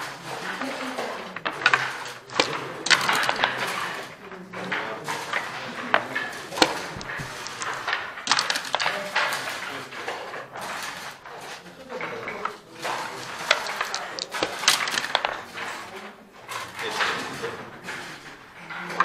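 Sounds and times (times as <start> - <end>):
checkers and dice clacking on board: 0.0 - 19.0
murmur of voices: 0.0 - 19.0.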